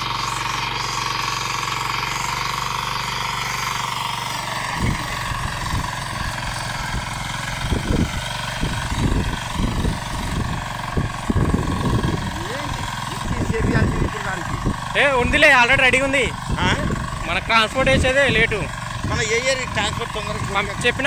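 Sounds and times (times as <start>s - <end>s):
power weeder engine running: 0.0s - 21.0s.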